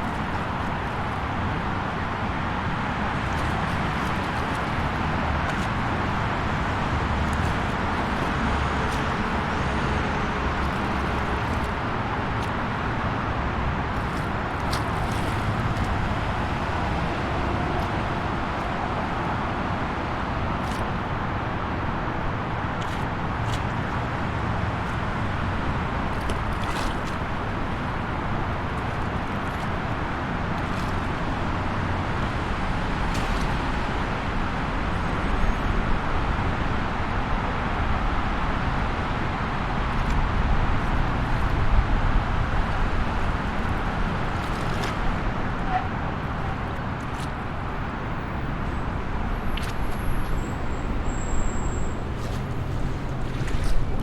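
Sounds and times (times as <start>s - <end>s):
highway traffic: 0.0s - 54.0s.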